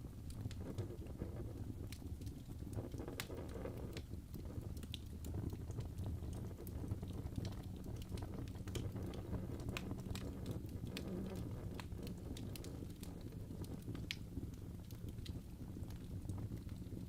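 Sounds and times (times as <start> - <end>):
burning logs rumbling: 0.0 - 17.0
fire popping and snapping: 0.0 - 17.0.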